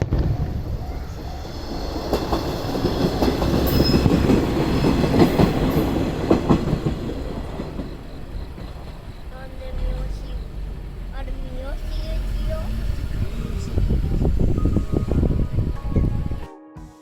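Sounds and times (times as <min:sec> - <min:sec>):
wheels clacking over rail joints: 0:00.0 - 0:14.5
diesel railcar passing: 0:00.0 - 0:16.4.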